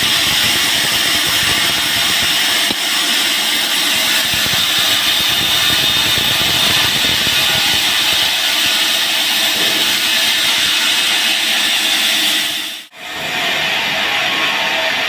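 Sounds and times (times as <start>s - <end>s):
band sawmill cutting log: 0.0s - 12.6s.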